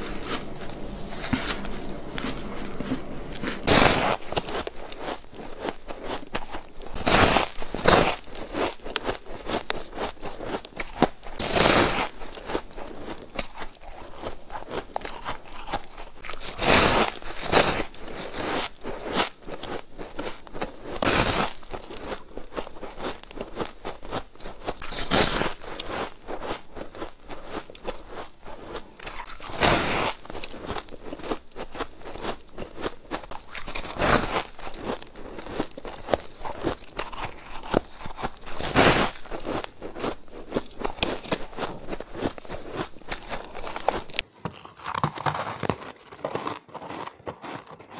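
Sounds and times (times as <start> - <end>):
crunching bites of ice: 0.0 - 47.9.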